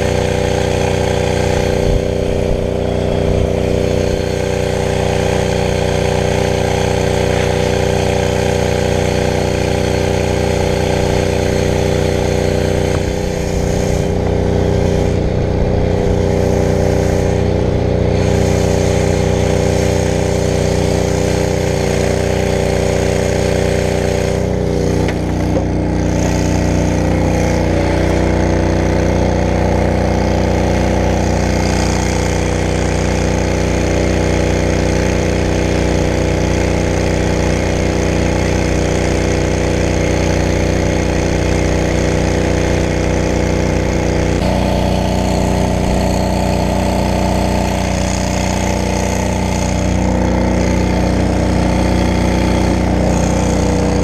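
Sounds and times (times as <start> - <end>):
truck engine and pump droning: 0.0 - 54.0.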